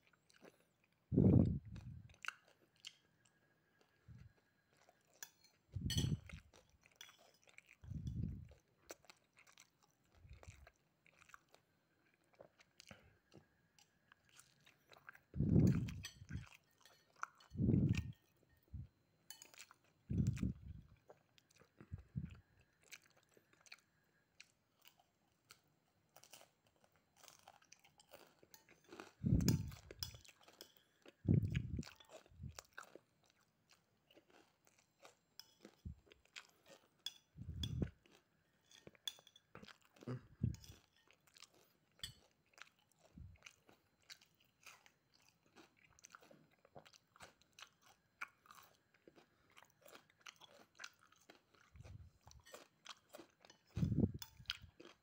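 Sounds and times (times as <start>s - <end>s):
person chewing and crunching: 0.0s - 55.0s.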